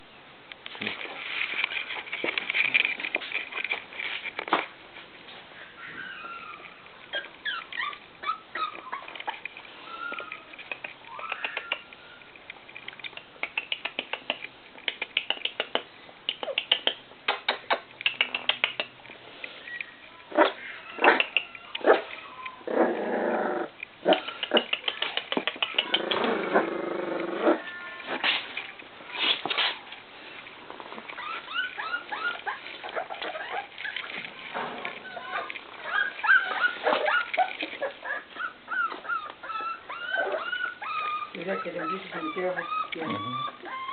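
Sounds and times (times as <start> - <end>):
puppies whimpering and squeaking: 5.5 - 43.9
puppies growling and yipping: 5.6 - 12.4, 13.0 - 43.9.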